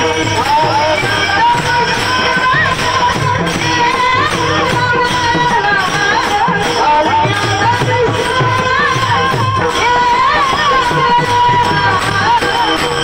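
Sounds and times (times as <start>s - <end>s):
rhythmic percussion: 0.0s - 13.0s.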